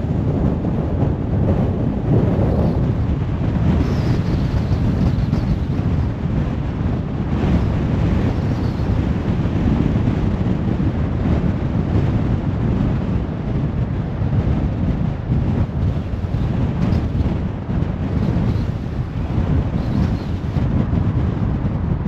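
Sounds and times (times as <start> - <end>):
car tyre and wind rumble: 0.0 - 22.0.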